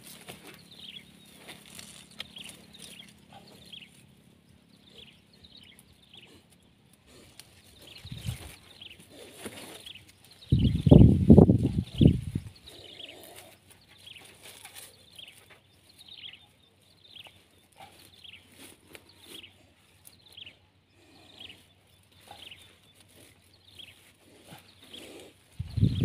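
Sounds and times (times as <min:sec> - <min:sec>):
bird chirping: 0:00.4 - 0:06.6, 0:07.6 - 0:26.0.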